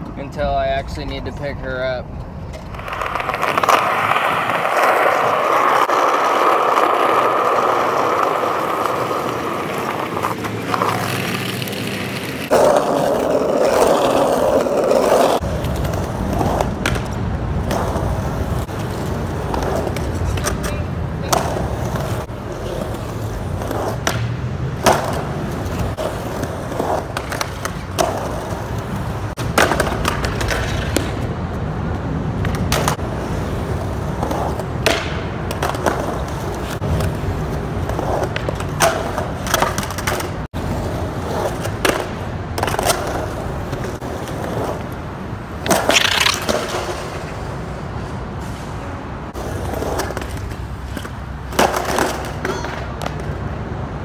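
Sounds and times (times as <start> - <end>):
skateboard clacking on ground: 0.0 - 48.2, 49.3 - 53.6
skateboard wheels rolling: 0.0 - 54.0.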